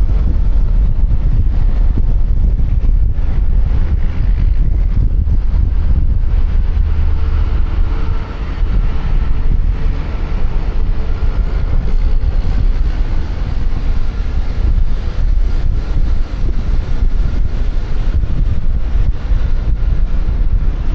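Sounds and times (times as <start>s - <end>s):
passing traffic: 0.0s - 20.9s
wind rumble on microphone: 0.0s - 20.9s.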